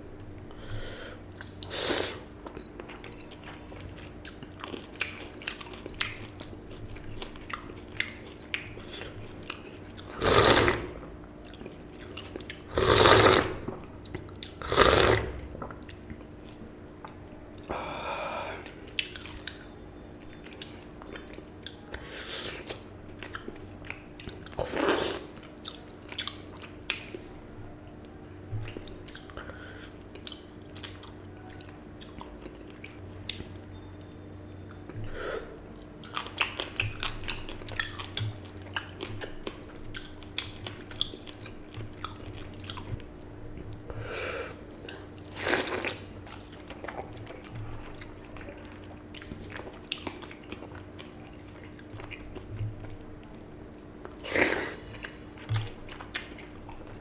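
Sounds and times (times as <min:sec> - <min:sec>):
wet chewing: 0:02.4 - 0:17.7, 0:18.5 - 0:27.2, 0:28.6 - 0:35.0, 0:35.6 - 0:43.7, 0:44.6 - 0:57.0.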